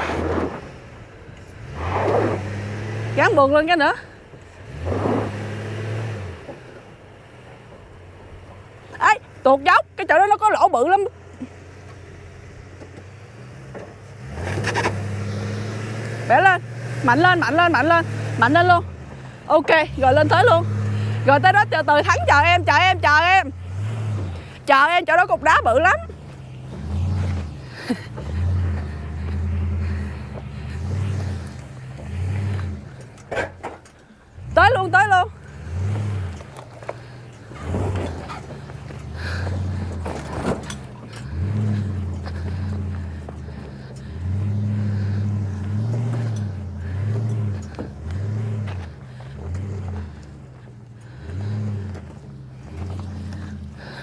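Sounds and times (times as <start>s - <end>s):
vehicle engine revving: 0.0s - 54.0s.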